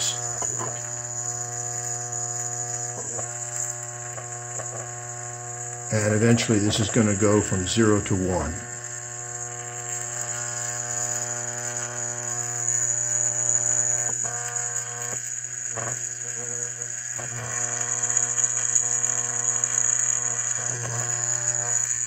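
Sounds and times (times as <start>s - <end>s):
solenoid valve electrical buzz: 0.0s - 22.0s.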